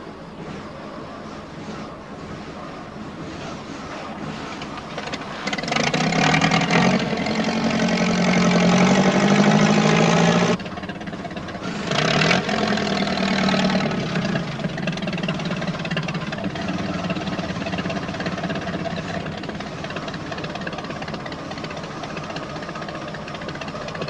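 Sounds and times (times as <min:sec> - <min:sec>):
engine working hard: 0:00.0 - 0:24.0.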